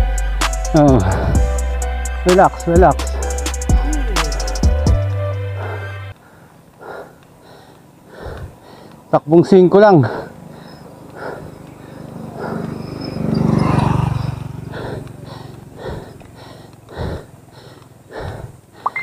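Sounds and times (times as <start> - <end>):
heavy breathing: 0.7 - 19.0.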